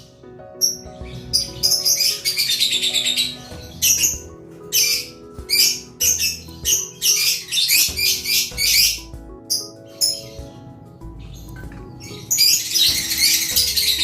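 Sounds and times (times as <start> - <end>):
faint background music: 0.0 - 14.0
bird chick chirping: 0.6 - 14.0.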